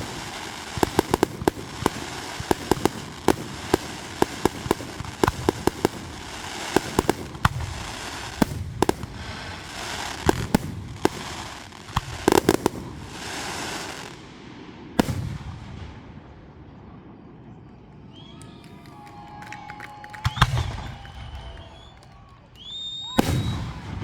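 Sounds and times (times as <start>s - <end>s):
fireworks bangs and crackling: 0.0s - 17.4s, 20.0s - 24.0s.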